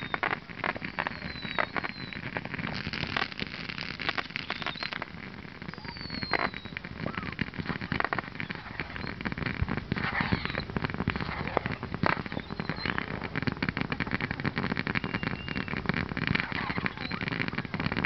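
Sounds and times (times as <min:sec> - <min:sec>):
firework falling whistle: 0:00.0 - 0:18.0
firework sparks crackling: 0:00.0 - 0:18.0.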